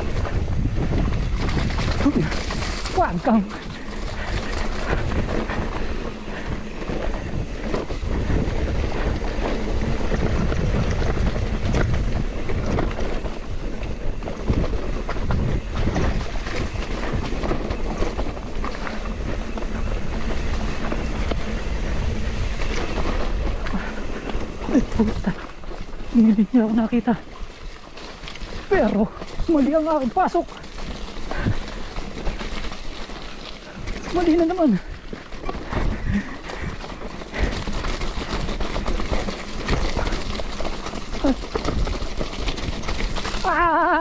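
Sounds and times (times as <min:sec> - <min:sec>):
bike knocking and rattling: 0:00.0 - 0:44.0
tyres on dirt: 0:00.0 - 0:44.0
wind on microphone: 0:00.0 - 0:44.0.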